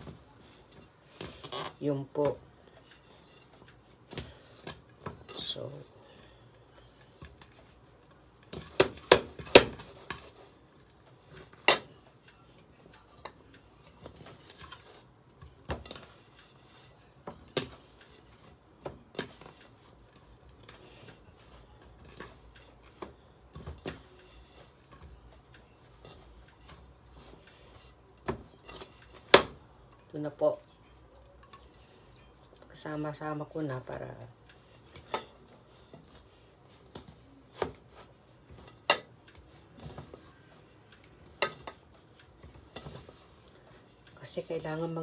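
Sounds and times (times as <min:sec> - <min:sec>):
dough squishing by hand: 0:00.0 - 0:45.0.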